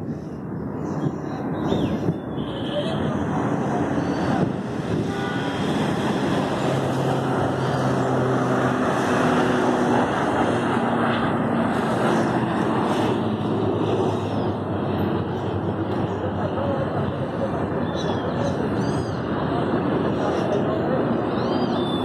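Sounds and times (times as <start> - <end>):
passing vehicle engines: 0.0 - 22.0
road traffic: 0.0 - 22.0.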